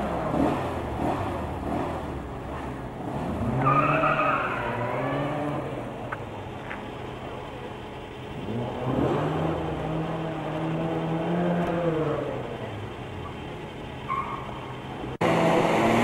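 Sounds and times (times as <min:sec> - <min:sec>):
rally car engine accelerating: 0:00.0 - 0:06.2, 0:07.2 - 0:16.0.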